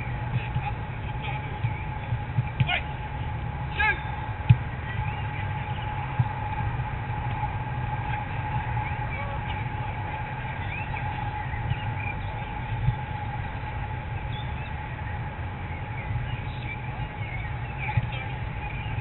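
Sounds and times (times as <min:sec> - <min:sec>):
birds chirping: 0:00.0 - 0:19.0
low rumble: 0:00.0 - 0:19.0.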